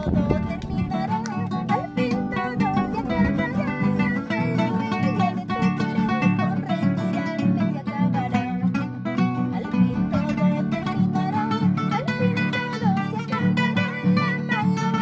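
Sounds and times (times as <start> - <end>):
classical guitars playing: 0.0 - 15.0.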